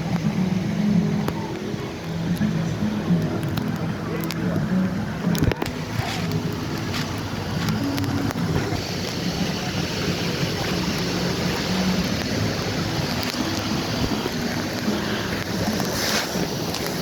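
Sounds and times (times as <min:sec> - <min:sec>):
faint distant voices: 0:00.0 - 0:17.0
water flowing and splashing: 0:00.0 - 0:17.0.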